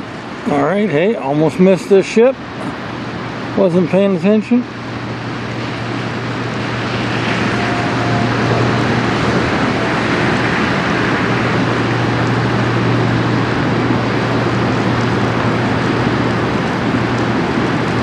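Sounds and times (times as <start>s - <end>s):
bow wave rushing along hull: 0.0s - 18.0s
ship engine drone: 0.0s - 18.0s.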